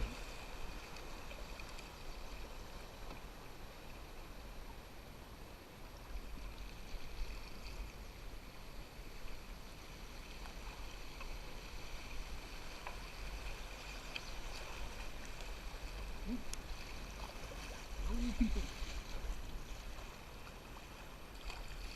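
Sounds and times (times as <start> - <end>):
river water flowing and lapping: 0.0 - 21.9.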